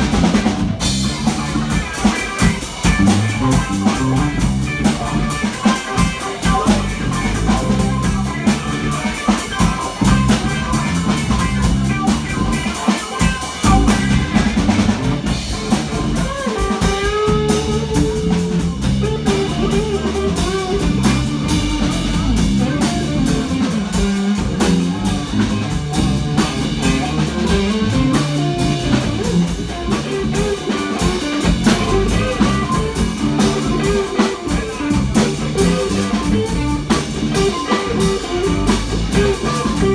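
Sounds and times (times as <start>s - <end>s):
drum kit: 0.0s - 39.9s
guitar: 0.0s - 39.9s
live band playing: 0.0s - 39.9s.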